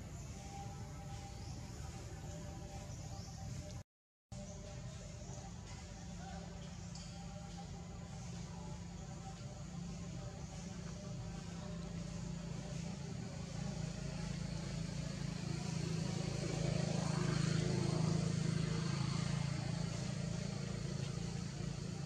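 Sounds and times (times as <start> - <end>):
low engine hum: 0.0 - 3.8, 4.4 - 22.0.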